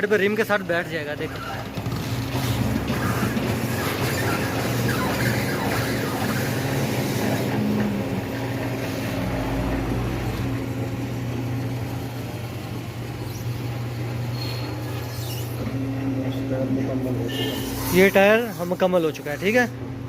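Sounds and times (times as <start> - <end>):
tyre changer motor humming: 0.0 - 20.0.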